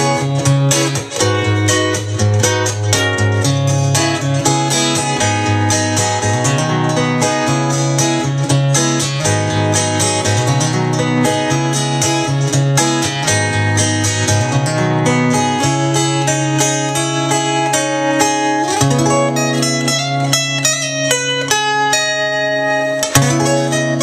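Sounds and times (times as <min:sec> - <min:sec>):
fingerpicked acoustic guitar: 0:00.0 - 0:24.0.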